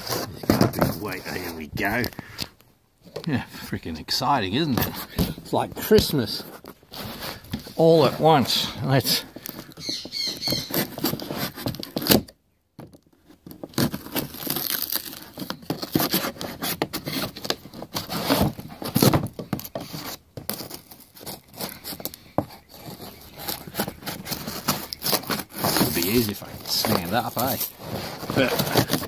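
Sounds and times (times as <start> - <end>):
cardboard and tape ripping: 0.0 - 2.3, 4.8 - 12.4, 13.3 - 29.0.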